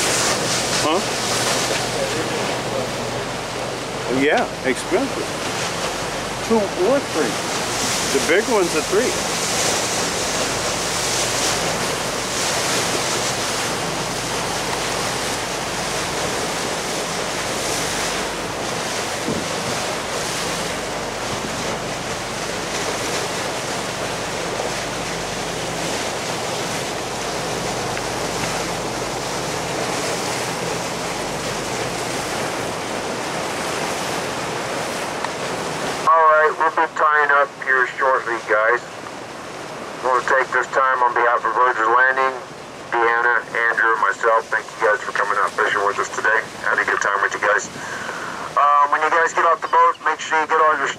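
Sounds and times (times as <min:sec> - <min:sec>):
water rushing past boat hull: 0:00.0 - 0:50.9.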